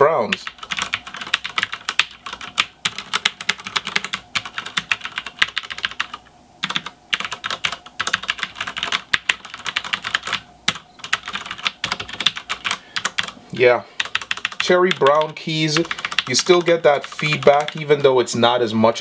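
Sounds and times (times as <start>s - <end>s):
mechanical keyboard typing: 0.3s - 13.4s, 14.0s - 18.2s.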